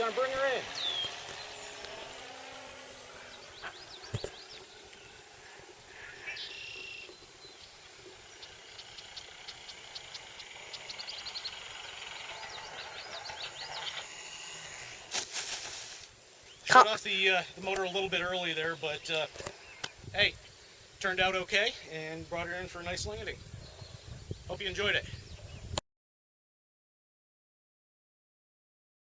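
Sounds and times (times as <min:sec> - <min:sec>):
birds chirping: 0:00.0 - 0:15.4, 0:16.0 - 0:25.8.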